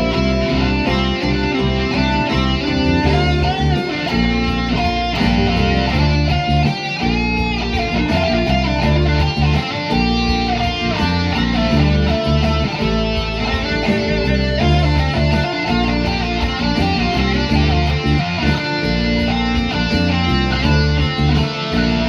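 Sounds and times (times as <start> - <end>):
bass and rhythm accompaniment: 0.0 - 22.0
lead guitar melody: 0.0 - 22.0.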